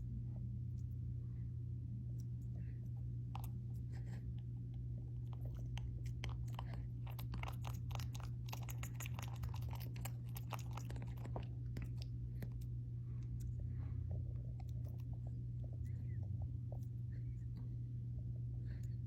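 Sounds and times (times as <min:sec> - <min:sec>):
low hum: 0:00.0 - 0:19.0
pet nibbling nails: 0:02.0 - 0:19.0.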